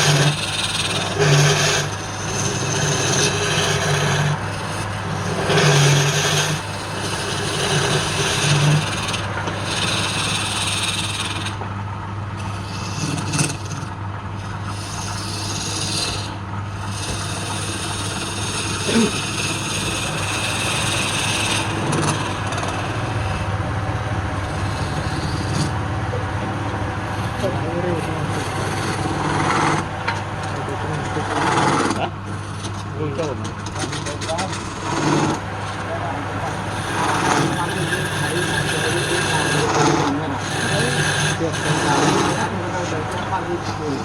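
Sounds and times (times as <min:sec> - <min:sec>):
cutting tool rubbing spinning wood: 0:00.0 - 0:44.0
woodturning lathe humming: 0:00.0 - 0:44.0.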